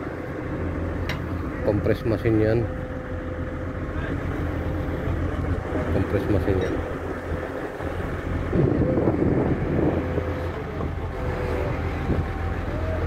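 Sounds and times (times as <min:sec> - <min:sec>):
heavy equipment engine running: 0:00.0 - 0:13.0
wind buffeting microphone: 0:00.0 - 0:13.0.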